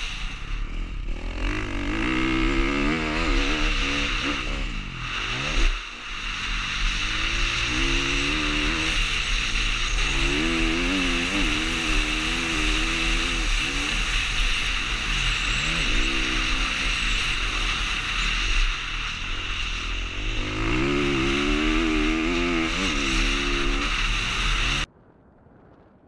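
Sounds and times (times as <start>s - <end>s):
motocross bike engine revving: 0.0s - 24.9s
steady rushing noise: 0.0s - 26.0s.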